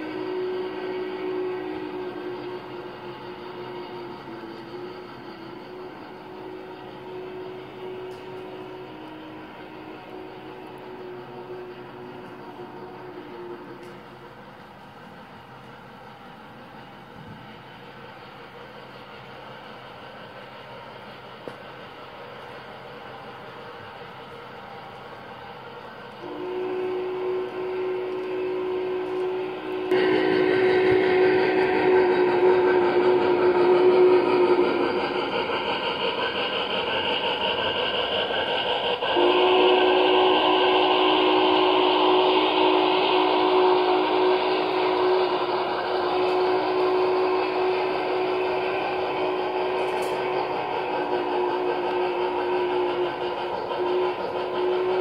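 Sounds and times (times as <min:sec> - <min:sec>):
constant hum: 0:00.0 - 0:55.0
model train running on track: 0:00.0 - 0:55.0
model train steam whistle: 0:00.0 - 0:55.0.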